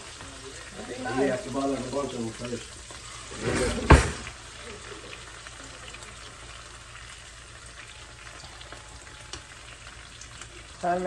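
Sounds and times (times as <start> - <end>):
steak sizzling in a frying pan: 0.0 - 11.0.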